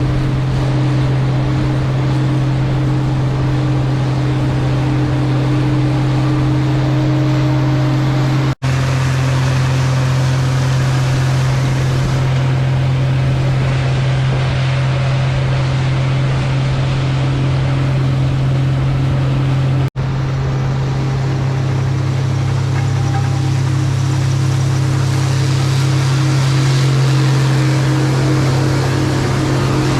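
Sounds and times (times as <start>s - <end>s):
combine engine drone: 0.0s - 29.9s
rushing noise: 0.0s - 29.9s.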